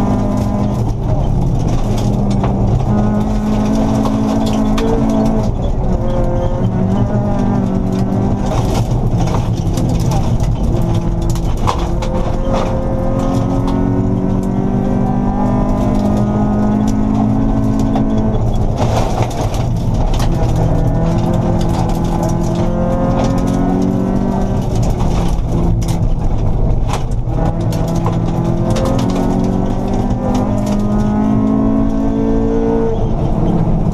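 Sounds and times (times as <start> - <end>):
gravel hitting car underside: 0.0 - 32.0
rally car engine at high revs: 0.0 - 33.9.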